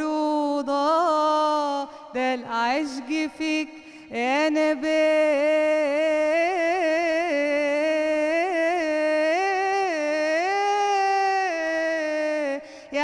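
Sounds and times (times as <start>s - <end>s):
woman singing devotional song: 0.0s - 13.0s.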